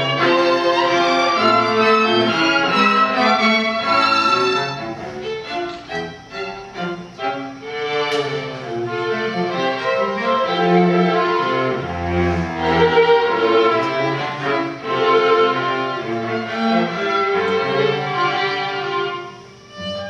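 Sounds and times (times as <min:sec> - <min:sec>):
low cello notes: 0:00.0 - 0:20.0
string quartet playing: 0:00.0 - 0:20.0.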